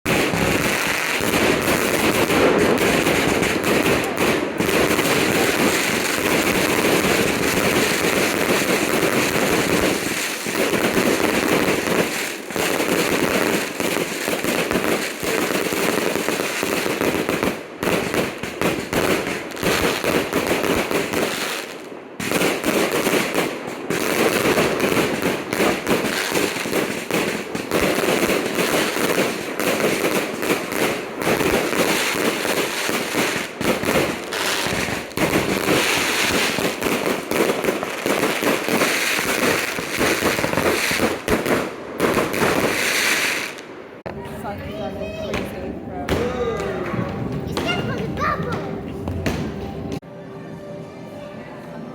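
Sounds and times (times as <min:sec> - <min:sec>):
fireworks crackling and popping: 0:00.1 - 0:44.1, 0:44.7 - 0:50.0.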